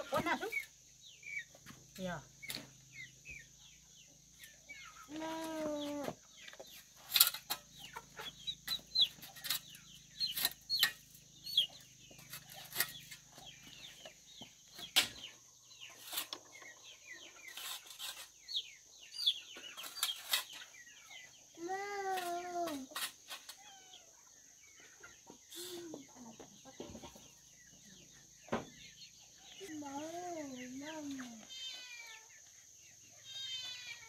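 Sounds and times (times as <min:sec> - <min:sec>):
chick peeping: 0:00.0 - 0:34.0.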